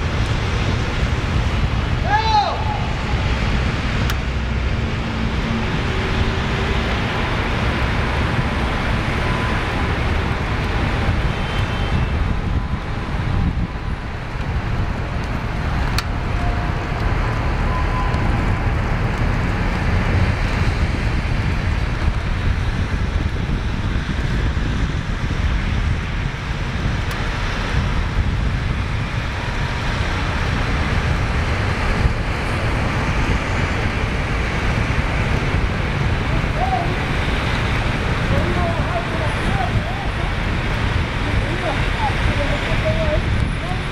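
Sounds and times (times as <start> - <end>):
city street traffic rumble: 0.0 - 43.9
wind noise on microphone: 0.0 - 43.9.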